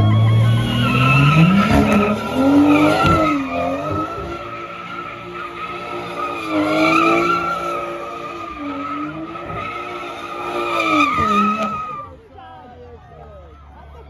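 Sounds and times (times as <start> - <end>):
car engine revving: 0.0 - 12.1
tyres squealing: 0.0 - 12.2.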